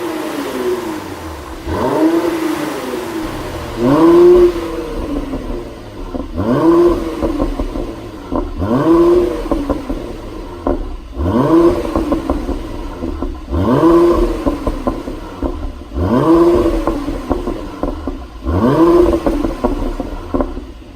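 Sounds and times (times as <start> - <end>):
car engine revving: 0.0 - 20.9
exhaust pops and crackles: 3.2 - 20.9.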